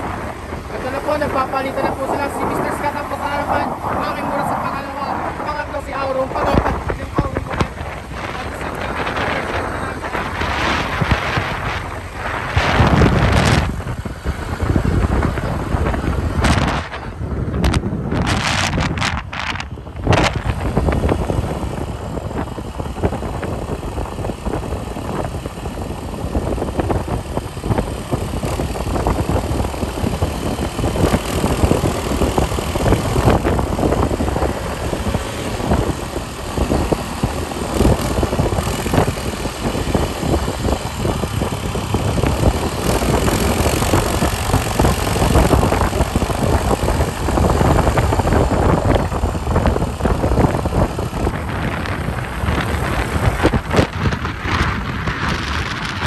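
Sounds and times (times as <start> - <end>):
vehicle engine running: 0.0 - 56.0
wind buffeting microphone: 0.0 - 56.0.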